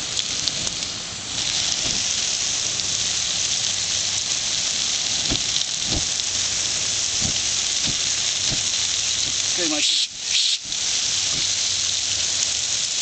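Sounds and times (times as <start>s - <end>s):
fire sizzling: 0.0s - 13.0s
hose water spraying: 0.0s - 13.0s.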